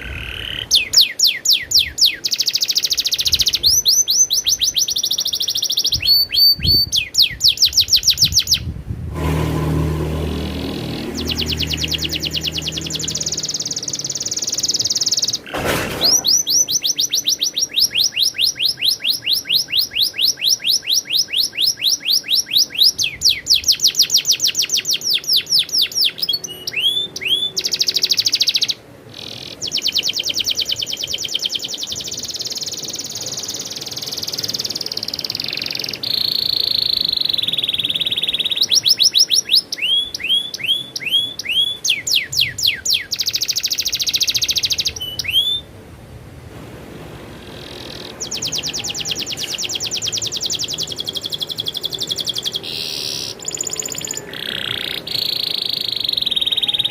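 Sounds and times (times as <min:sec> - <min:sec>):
canary singing: 0:00.0 - 0:45.7, 0:47.4 - 0:56.9.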